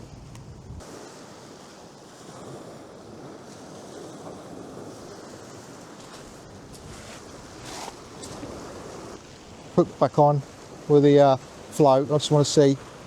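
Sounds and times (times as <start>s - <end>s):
sea surf washing on beach: 0.0s - 13.0s
wind buffeting microphone: 0.0s - 13.0s.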